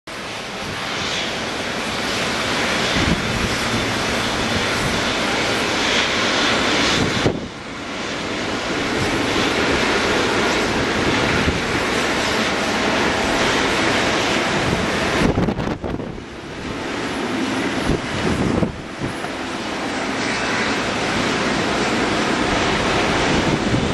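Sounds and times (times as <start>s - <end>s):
jet engines running: 0.1s - 23.9s.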